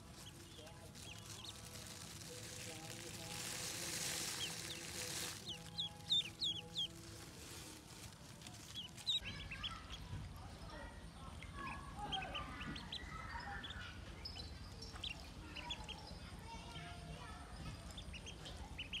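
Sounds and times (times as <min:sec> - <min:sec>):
ducklings peeping: 0:00.0 - 0:10.0, 0:11.4 - 0:16.4, 0:17.7 - 0:19.0.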